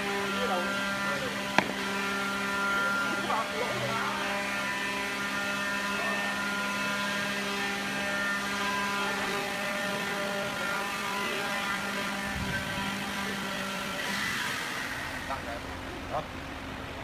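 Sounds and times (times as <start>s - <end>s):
lathe electric motor humming: 0.0s - 17.0s.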